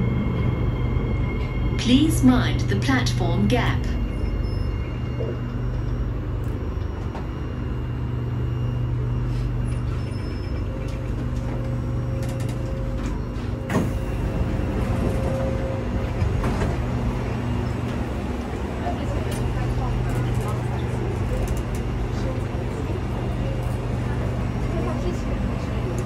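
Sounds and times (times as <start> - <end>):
train running hum: 0.0 - 26.0.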